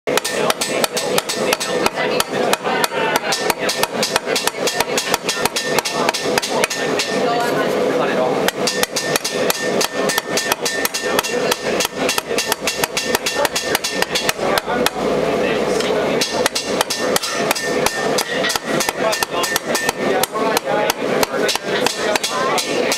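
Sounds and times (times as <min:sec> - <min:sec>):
hammer striking copper disc: 0:00.1 - 0:07.3, 0:08.4 - 0:15.1, 0:15.8 - 0:22.9.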